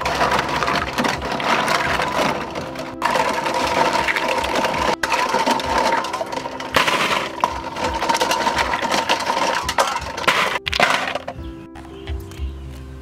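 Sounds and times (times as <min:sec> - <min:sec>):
snail shells clattering on metal: 0:00.0 - 0:11.5.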